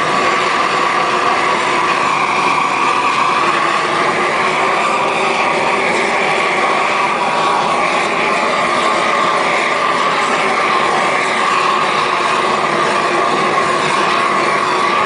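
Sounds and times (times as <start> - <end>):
roofing torch burning: 0.0 - 15.0.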